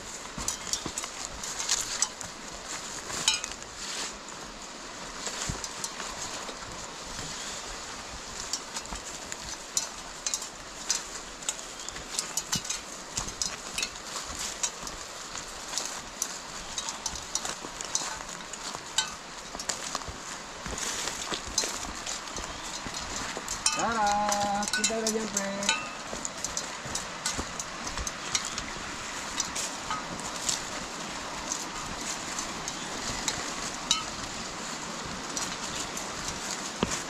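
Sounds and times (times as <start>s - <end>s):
footsteps crunching through dry leaves: 0.0s - 37.0s.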